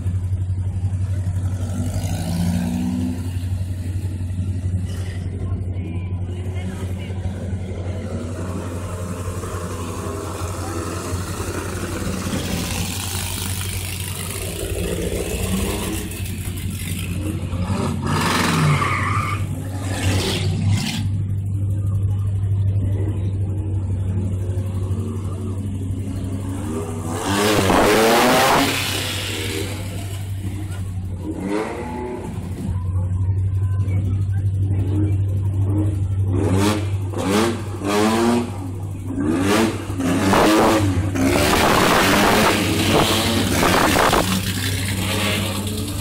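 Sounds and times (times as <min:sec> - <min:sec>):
race car engine idling and revving: 0:00.0 - 0:46.0.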